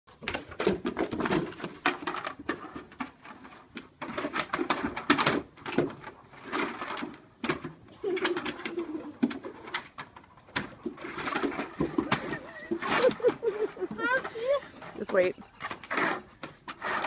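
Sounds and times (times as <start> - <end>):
claws scraping plastic on boards: 0.1 - 17.0.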